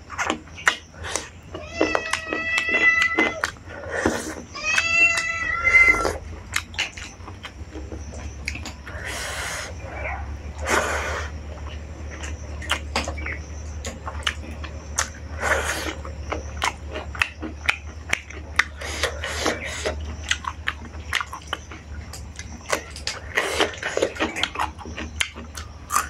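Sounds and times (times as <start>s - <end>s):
steady low hum: 0.0s - 26.0s
wet chewing and lip smacks: 0.0s - 26.0s.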